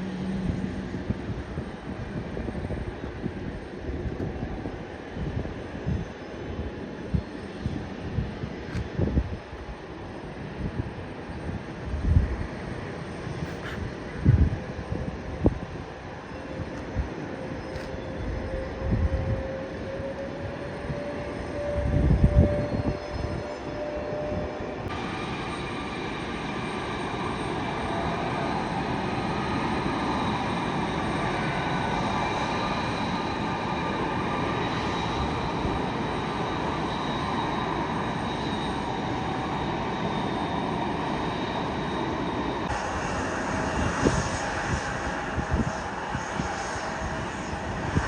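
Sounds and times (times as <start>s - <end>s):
jet airliner engines running: 0.0s - 48.0s.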